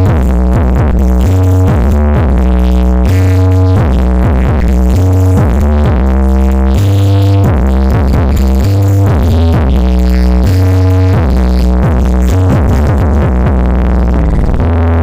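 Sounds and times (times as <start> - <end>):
loud electronic dance music: 0.0 - 15.0.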